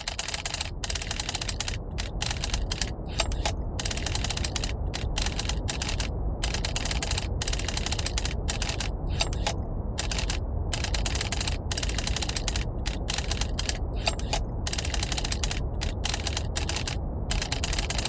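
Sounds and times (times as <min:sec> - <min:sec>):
deep brown noise rumble: 0:00.0 - 0:18.0.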